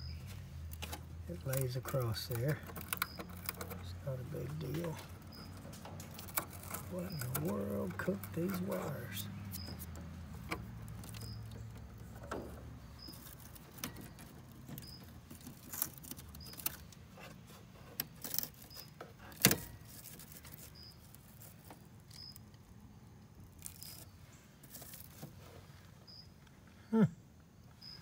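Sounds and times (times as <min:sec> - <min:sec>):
wires clicking and rattling: 0:00.0 - 0:22.8, 0:23.4 - 0:25.4.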